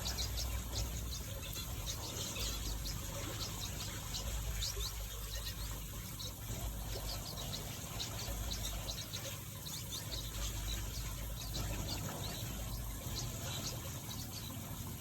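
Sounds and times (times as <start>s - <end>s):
small finches chirping: 0.0s - 15.0s.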